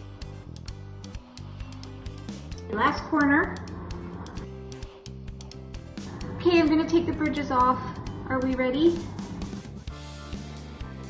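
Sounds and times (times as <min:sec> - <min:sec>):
background music low notes: 0:00.0 - 0:11.0.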